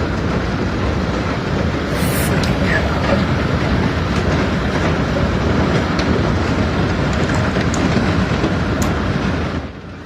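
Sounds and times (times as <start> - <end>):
storm rushing noise: 0.0 - 10.0.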